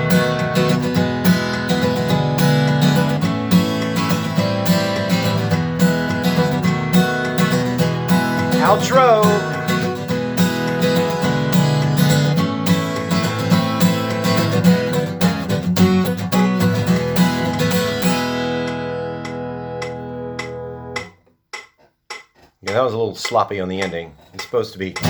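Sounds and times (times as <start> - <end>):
acoustic guitar strumming: 0.0 - 21.2.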